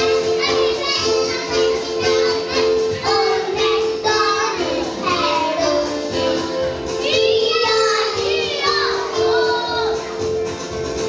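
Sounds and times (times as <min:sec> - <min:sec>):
children singing together: 0:00.0 - 0:10.3
backing music: 0:00.0 - 0:11.0.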